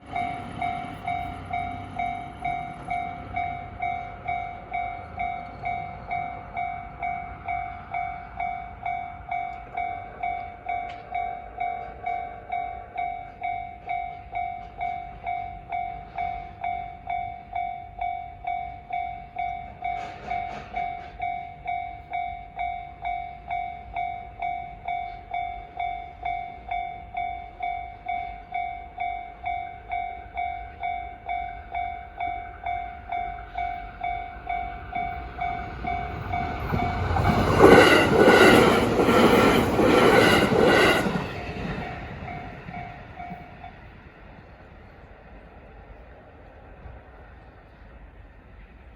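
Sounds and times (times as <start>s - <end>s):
level crossing warning bell: 0.0s - 44.0s.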